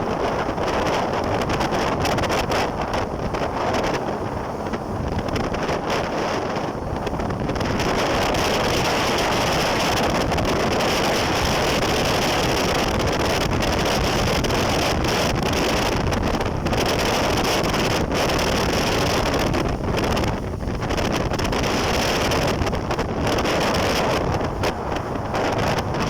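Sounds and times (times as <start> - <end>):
water noise: 0.0 - 26.0
wind buffeting microphone: 0.0 - 26.0.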